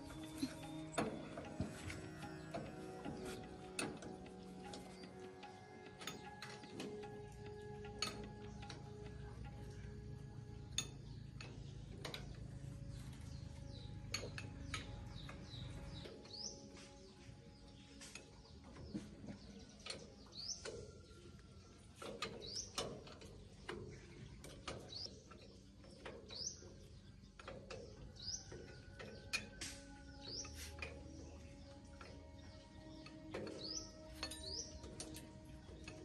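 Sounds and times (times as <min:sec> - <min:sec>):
hand tools clicking on metal: 0:00.0 - 0:17.0, 0:17.6 - 0:36.0.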